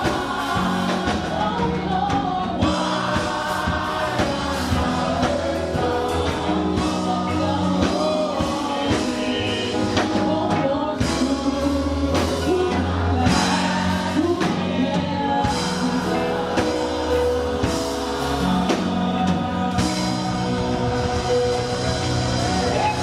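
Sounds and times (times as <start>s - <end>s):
drum strokes: 0.0s - 23.0s
gospel band playing: 0.0s - 23.0s.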